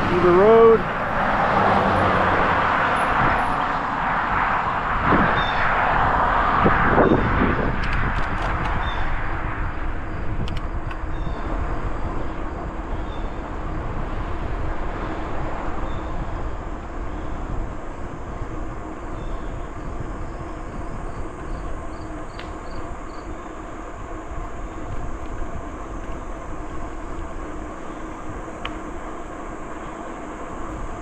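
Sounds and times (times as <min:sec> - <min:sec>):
wind on microphone: 0:00.0 - 0:28.6
bicycle tyres rolling on trail: 0:00.0 - 0:31.0.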